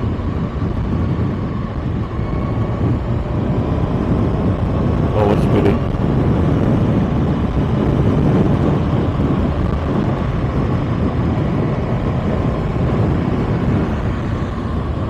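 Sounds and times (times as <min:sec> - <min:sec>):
motorcycle engine riding on road: 0:00.0 - 0:15.0.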